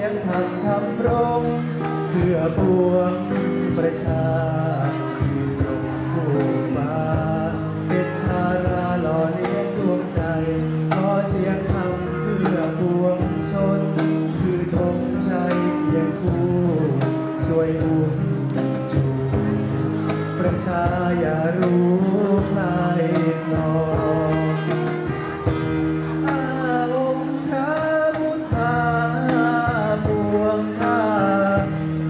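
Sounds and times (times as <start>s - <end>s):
acoustic guitar: 0.0s - 32.0s
man singing into a microphone: 0.0s - 32.0s.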